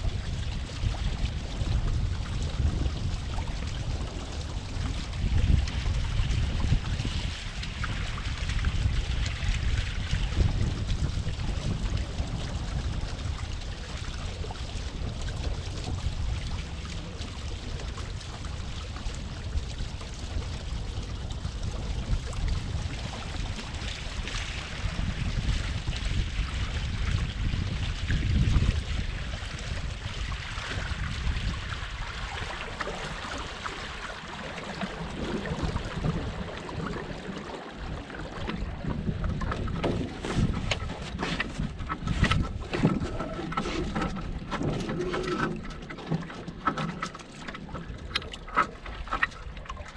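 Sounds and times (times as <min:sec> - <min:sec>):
water splashing along hull: 0:00.0 - 0:49.9
wind buffeting microphone: 0:00.0 - 0:49.9.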